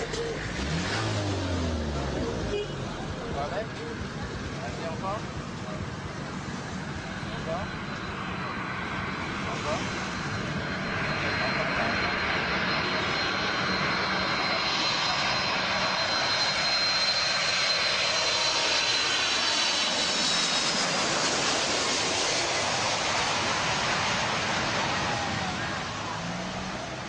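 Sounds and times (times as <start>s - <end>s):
high jet whine: 0.0s - 27.0s
jet engines roaring: 0.0s - 27.0s.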